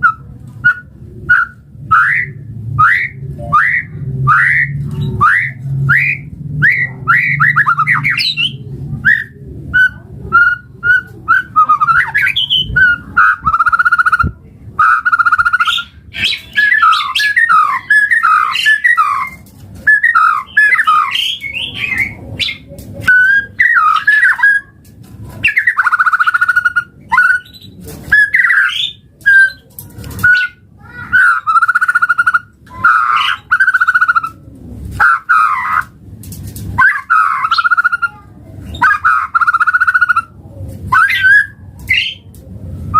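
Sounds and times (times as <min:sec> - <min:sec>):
bird singing varied song: 0:00.0 - 0:24.8, 0:25.4 - 0:34.4, 0:36.8 - 0:40.3, 0:40.9 - 0:42.3.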